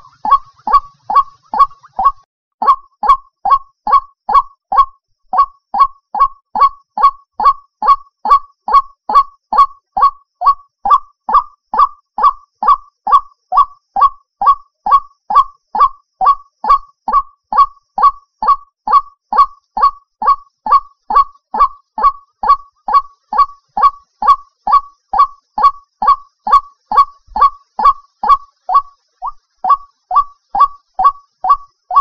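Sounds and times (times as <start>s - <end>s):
bird honking calls: 0.0s - 32.0s.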